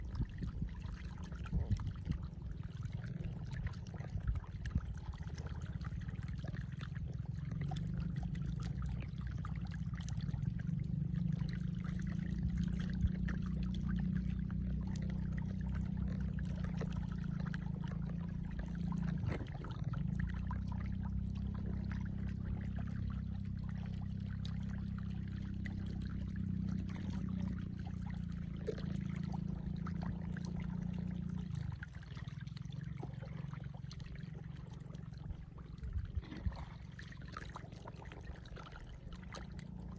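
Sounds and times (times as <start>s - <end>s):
stream rushing and trickling: 0.0s - 39.9s.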